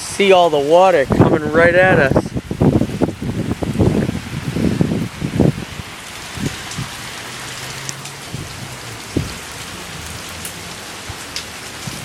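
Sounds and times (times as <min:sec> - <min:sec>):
heavy rain hissing: 0:00.0 - 0:12.0
raindrops knocking close by: 0:00.0 - 0:12.0.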